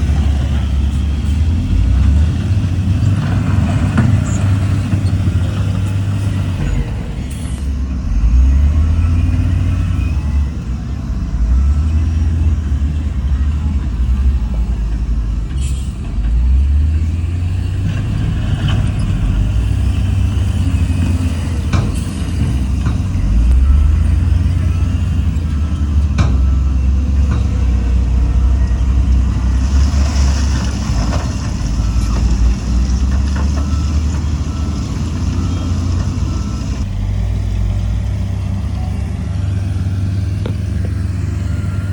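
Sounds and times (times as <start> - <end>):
heavy diesel machinery rumbling: 0.0 - 41.9.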